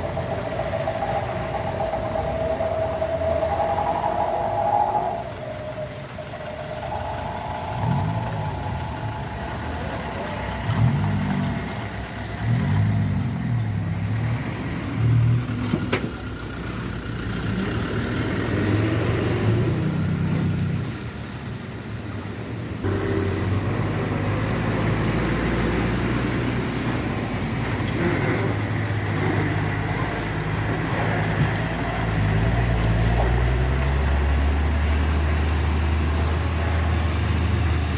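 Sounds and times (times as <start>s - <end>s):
steady engine hum: 0.0s - 37.9s
truck engines accelerating: 0.0s - 37.9s.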